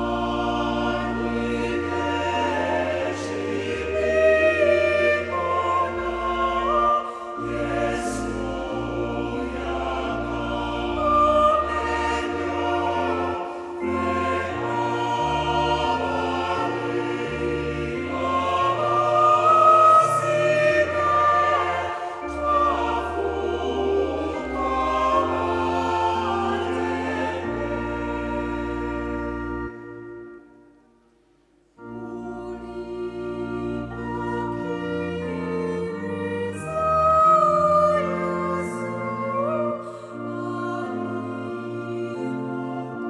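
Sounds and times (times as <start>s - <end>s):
mixed choir singing a hymn: 0.0s - 30.3s, 31.8s - 43.0s.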